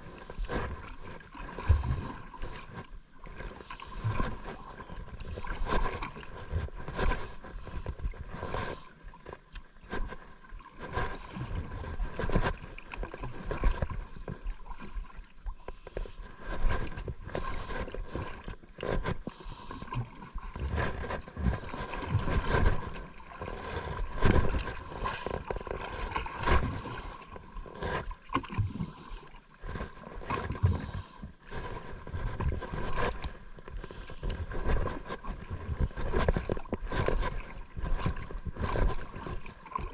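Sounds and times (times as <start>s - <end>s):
water slapping against boat hull: 3.9s - 29.0s, 29.6s - 39.9s.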